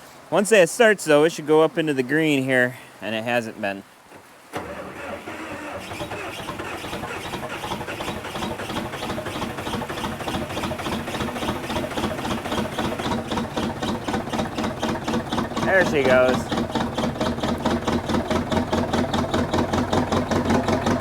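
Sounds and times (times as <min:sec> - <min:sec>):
engine cranking on starter: 0:04.2 - 0:21.0.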